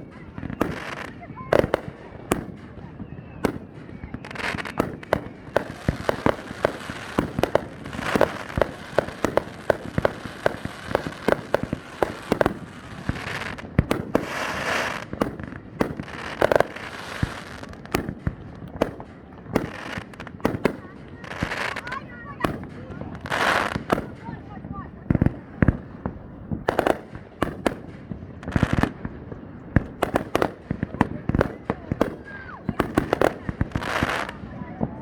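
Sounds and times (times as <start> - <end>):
fireworks crackling hiss: 0.0 - 34.5
fireworks bangs: 0.0 - 35.0.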